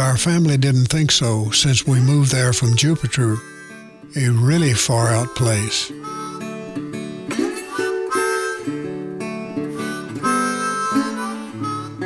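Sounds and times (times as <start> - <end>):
acoustic guitar: 0.0 - 12.0
harmonica playing held notes: 1.2 - 12.0.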